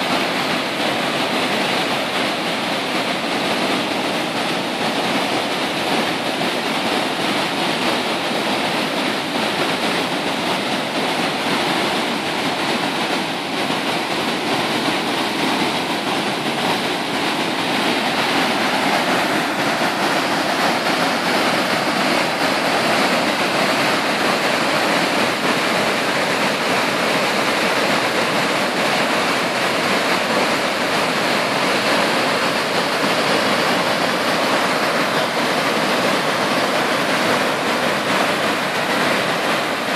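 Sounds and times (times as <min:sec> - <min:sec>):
river rushing over weir: 0:00.0 - 0:39.9.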